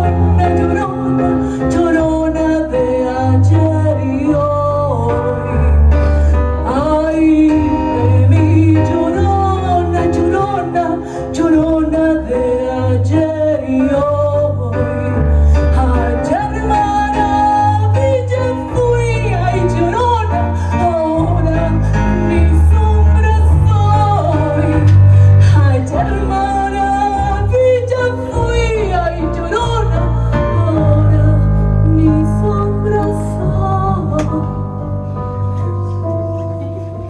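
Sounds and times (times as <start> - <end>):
sustained bass notes: 0.0 - 37.0.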